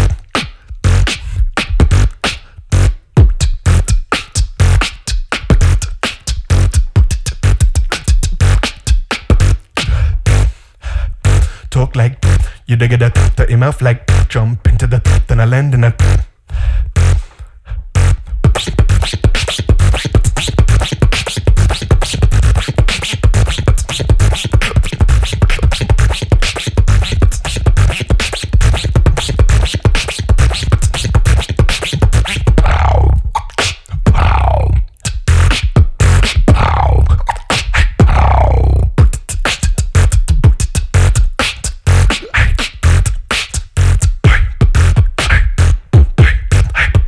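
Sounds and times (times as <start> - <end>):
deep bass: 0.0 - 22.6, 23.2 - 47.0
person beatboxing into microphone: 0.0 - 47.0.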